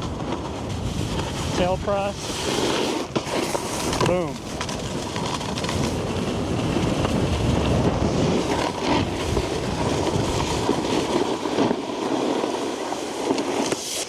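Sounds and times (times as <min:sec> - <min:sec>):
snowboard scraping over snow: 0:00.0 - 0:14.0.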